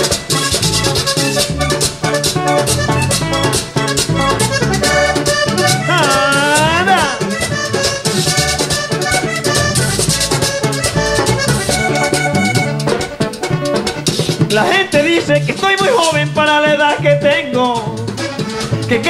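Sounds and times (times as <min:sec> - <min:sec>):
button accordion: 0:00.0 - 0:14.5, 0:18.1 - 0:19.0
electric bass: 0:00.0 - 0:15.6
hand drum: 0:00.0 - 0:19.0
rhythmic percussion: 0:00.0 - 0:19.0.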